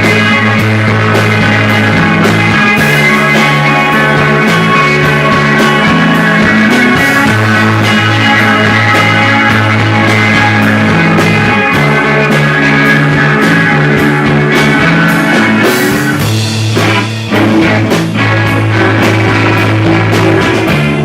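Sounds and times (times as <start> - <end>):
bass notes: 0.0 - 21.0
guitar: 0.0 - 21.0
steady drum beat: 0.0 - 21.0.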